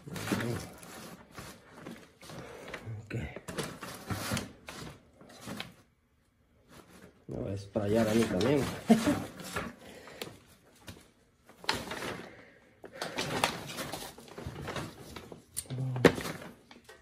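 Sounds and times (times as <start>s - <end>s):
plastic bucket rustling and clicking: 0.0s - 5.9s, 6.7s - 17.0s.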